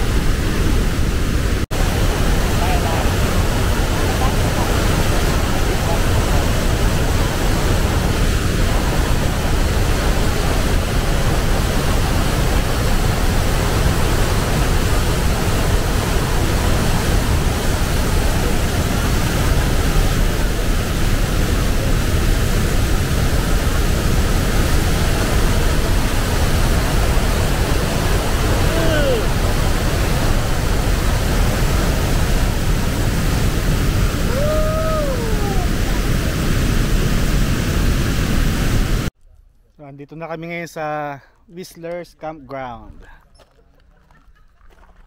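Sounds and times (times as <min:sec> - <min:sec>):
waterfall rushing: 0:00.0 - 0:39.1.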